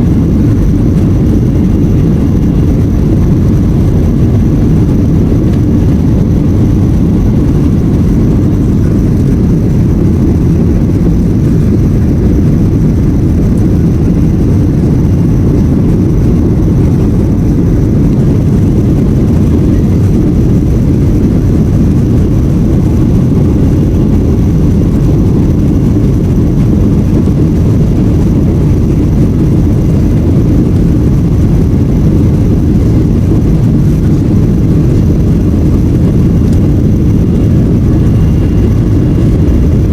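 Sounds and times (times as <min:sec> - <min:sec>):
jet engines rumbling: 0:00.0 - 0:39.9
rushing air: 0:00.0 - 0:39.9.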